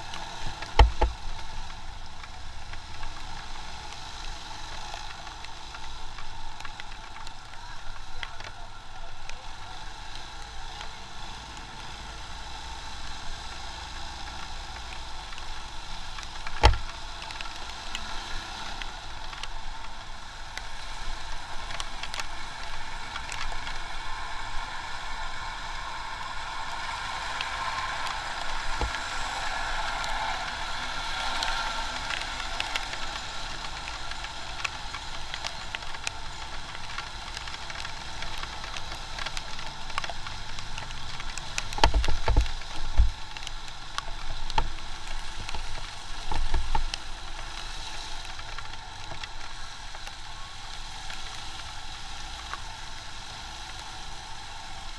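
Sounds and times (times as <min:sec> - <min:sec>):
rain and wet road hiss: 0:00.0 - 0:54.9.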